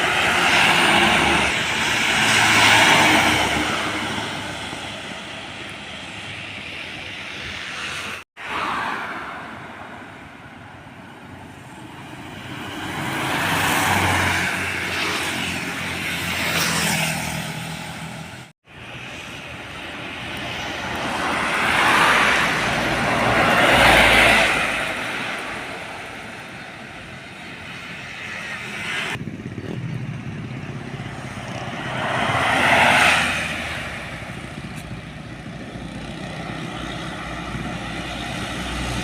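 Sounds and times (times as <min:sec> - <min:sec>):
heavy trucks passing: 0:00.0 - 0:06.7, 0:07.4 - 0:39.0.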